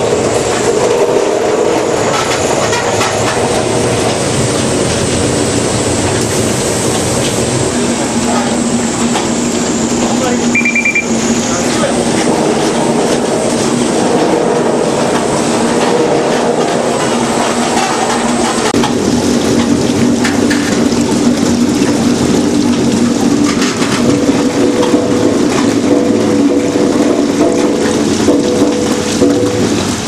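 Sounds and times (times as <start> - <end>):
peeling machine hum and rattle: 0.0 - 30.0.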